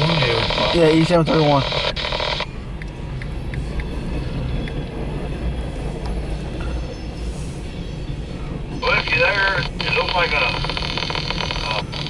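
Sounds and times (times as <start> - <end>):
train cars rolling past: 0.0 - 12.0.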